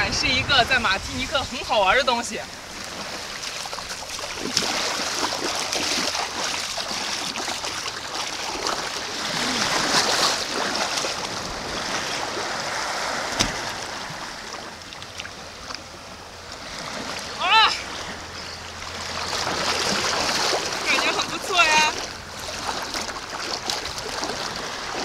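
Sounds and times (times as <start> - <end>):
sea water lapping at shore: 0.0 - 25.0.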